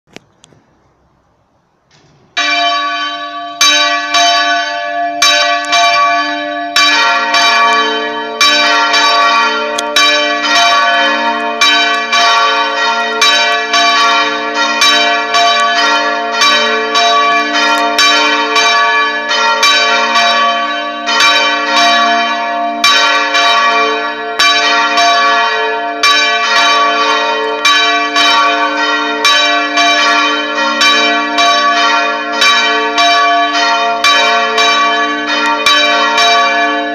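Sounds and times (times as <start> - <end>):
church bell ringing: 2.4 - 36.9
lower-pitched church bell: 2.4 - 36.9.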